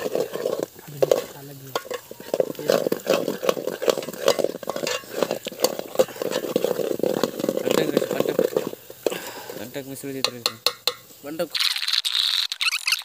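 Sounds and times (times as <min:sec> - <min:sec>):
metal ladle scraping pot: 0:00.0 - 0:11.2
gravy sizzling: 0:00.0 - 0:13.0.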